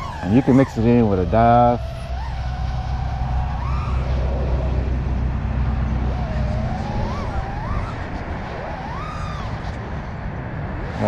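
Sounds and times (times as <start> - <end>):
drone motors whining: 0.0 - 11.0
wind rush: 0.0 - 11.0.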